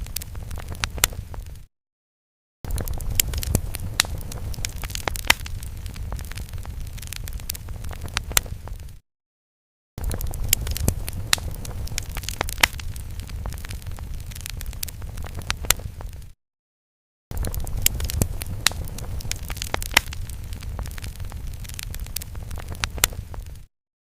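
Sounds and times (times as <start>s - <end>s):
fire crackles and pops: 0.0s - 1.7s, 2.7s - 9.0s, 10.0s - 16.4s, 17.3s - 23.7s
low rumble of flames: 0.0s - 1.7s, 2.7s - 9.0s, 10.0s - 16.4s, 17.3s - 23.7s.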